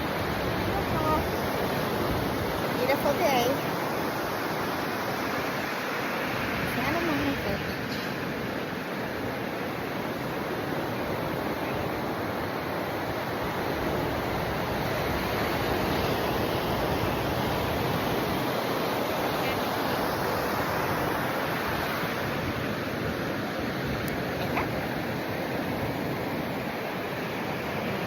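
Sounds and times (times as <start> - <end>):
ocean surf washing on beach: 0.0 - 28.0.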